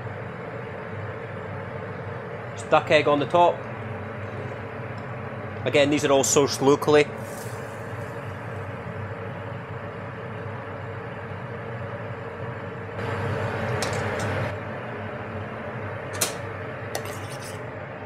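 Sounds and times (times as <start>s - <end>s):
kitchen ventilation hum: 0.0s - 18.0s.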